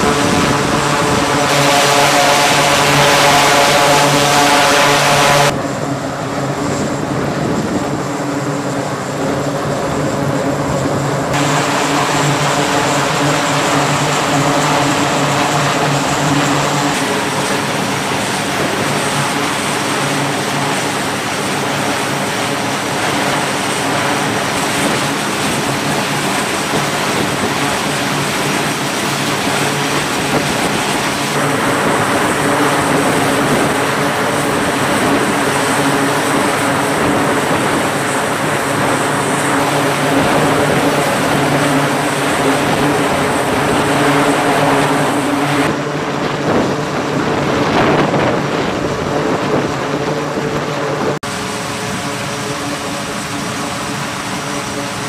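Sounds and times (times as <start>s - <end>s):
dense rush of engine noise: 0.0s - 55.0s
turboprop engines whining: 0.0s - 55.0s.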